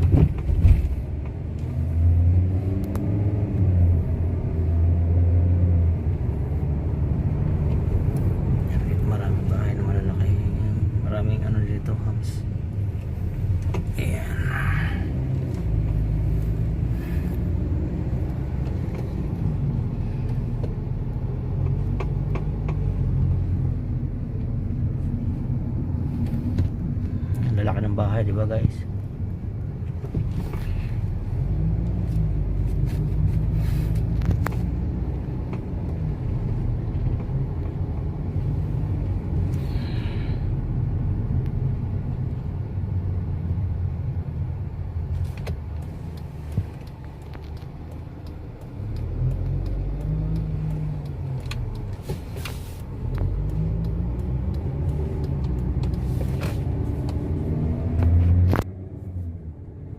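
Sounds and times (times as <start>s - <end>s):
car driving at low speed: 0.0s - 59.9s.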